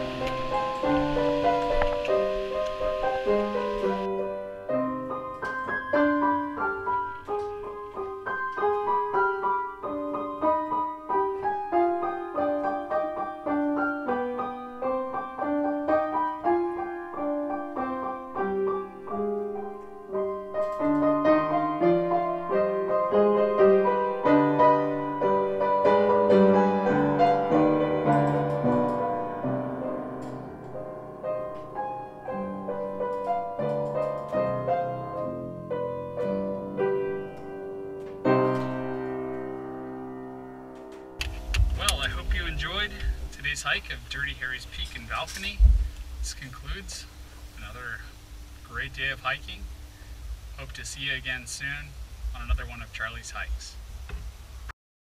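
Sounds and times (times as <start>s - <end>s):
solo piano playing: 0.0s - 45.3s.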